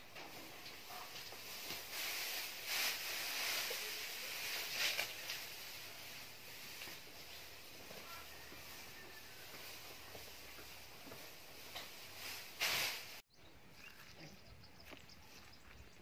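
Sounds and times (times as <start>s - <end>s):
dry straw rustling: 0.0s - 16.0s.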